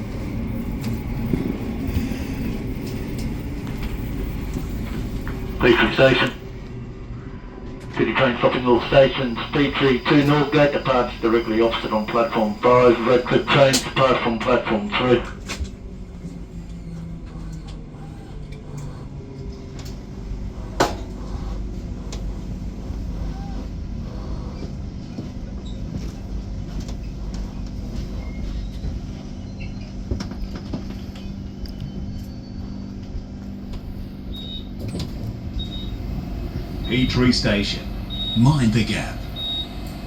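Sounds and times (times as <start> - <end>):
train carriage rumble and hum: 0.0 - 40.0.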